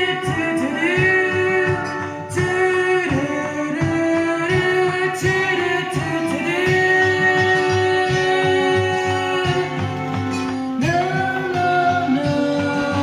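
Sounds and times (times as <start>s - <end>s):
musical accompaniment: 0.0s - 13.0s
person singing long notes: 0.0s - 13.0s.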